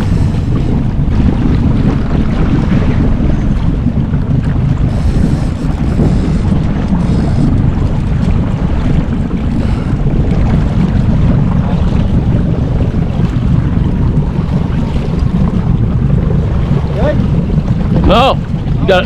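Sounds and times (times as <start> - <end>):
boat engine rumbling: 0.0 - 19.0
water along hull: 0.0 - 19.0
wind buffeting microphone: 0.0 - 19.0.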